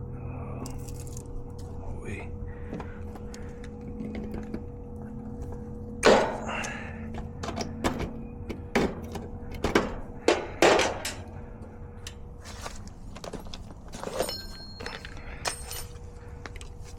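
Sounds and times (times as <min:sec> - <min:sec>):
steady electrical hum: 0:00.0 - 0:16.9.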